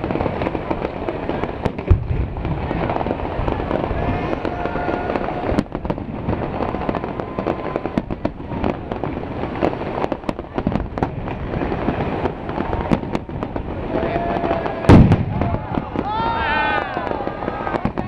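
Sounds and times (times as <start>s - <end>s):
firework whistle: 0.0s - 10.3s, 11.0s - 18.0s
fireworks crackling and banging: 0.0s - 18.0s.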